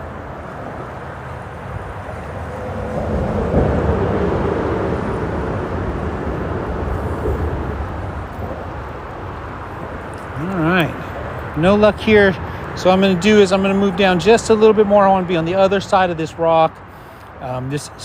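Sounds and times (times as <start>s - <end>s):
freeway traffic rushing: 0.0s - 18.0s.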